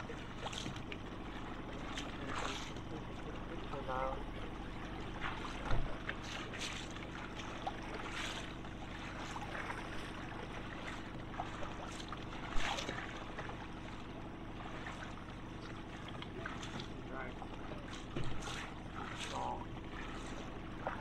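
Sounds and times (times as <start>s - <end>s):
boat motor running: 0.0s - 21.0s
water splashing against hull: 0.0s - 21.0s.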